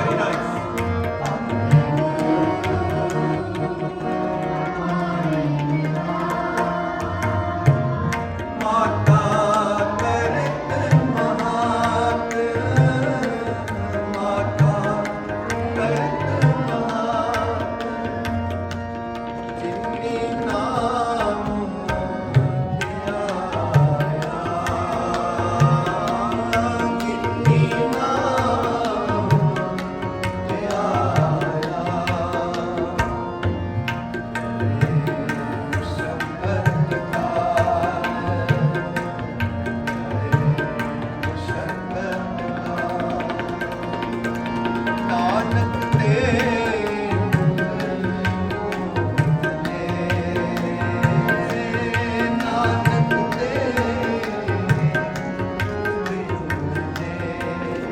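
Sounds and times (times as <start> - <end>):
voices singing a hymn: 0.0 - 18.6, 22.9 - 33.6, 34.5 - 57.9
tabla: 0.0 - 57.9.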